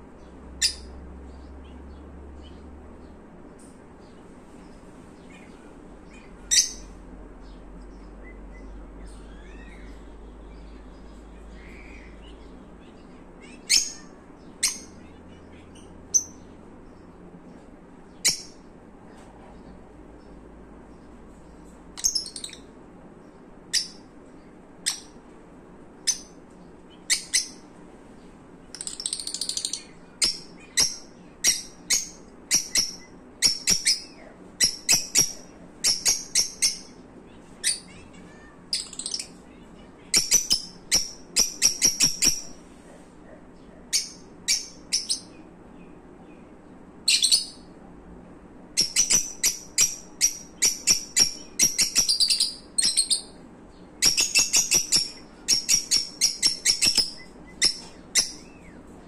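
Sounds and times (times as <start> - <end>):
lovebirds chirping: 0.0 - 47.9, 48.6 - 59.0.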